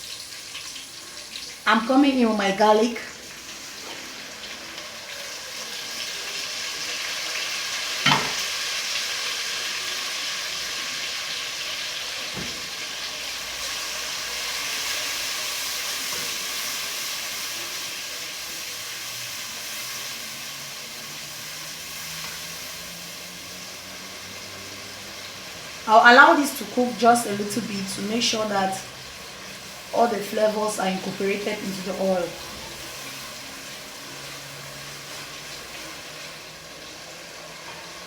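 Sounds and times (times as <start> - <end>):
food sizzling in hot oil: 0.0 - 38.0.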